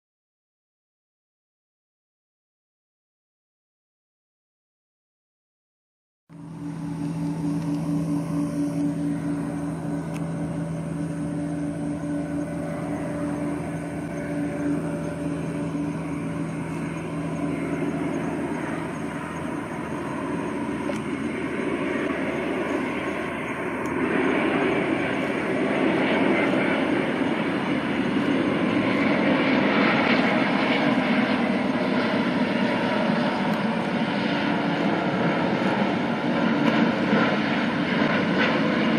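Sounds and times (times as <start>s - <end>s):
jet airliner approaching: 6.3s - 38.9s.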